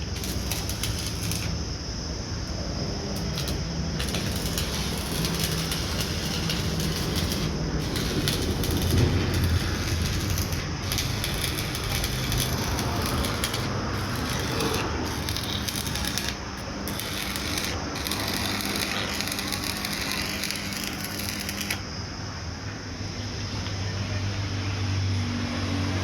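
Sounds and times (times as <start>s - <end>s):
arc welding crackling sizzle: 0.0s - 21.9s.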